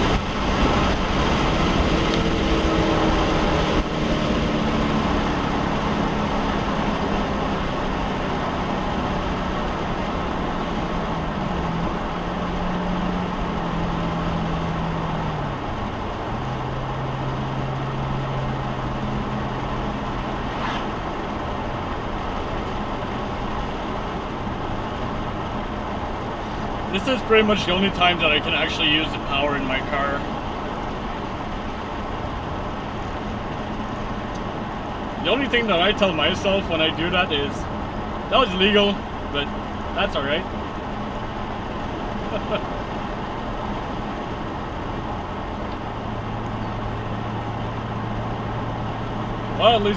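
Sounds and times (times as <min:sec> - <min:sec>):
car engine drone: 0:00.0 - 0:49.9
road and tyre noise: 0:00.0 - 0:49.9.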